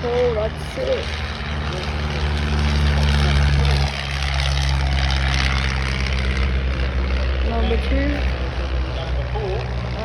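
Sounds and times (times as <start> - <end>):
biplane engines droning past: 0.0 - 10.0.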